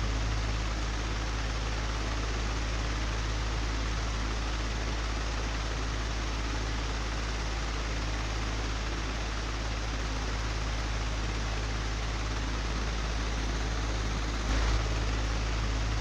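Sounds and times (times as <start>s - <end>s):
electric fan humming with flutter: 0.0s - 16.0s.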